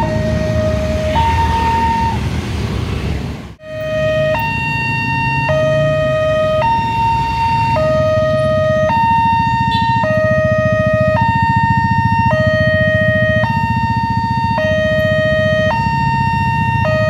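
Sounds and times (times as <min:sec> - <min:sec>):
two-tone crossing alarm: 0:00.0 - 0:02.4, 0:03.6 - 0:17.0
motorcycle and car engines: 0:00.0 - 0:17.0.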